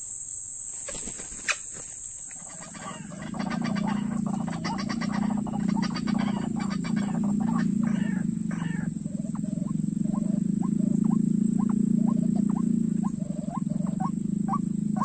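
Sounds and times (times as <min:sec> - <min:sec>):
insects whining: 0:00.0 - 0:15.0
bird rapid rhythmic croaking: 0:00.8 - 0:15.0.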